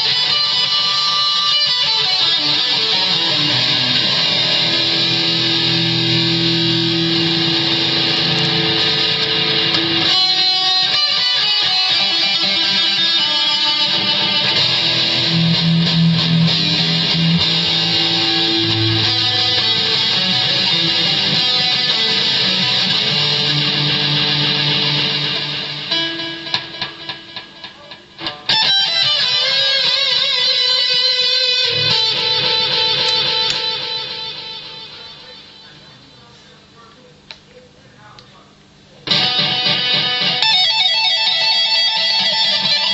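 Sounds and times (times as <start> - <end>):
electric guitar: 0.0 - 36.1, 39.0 - 42.9.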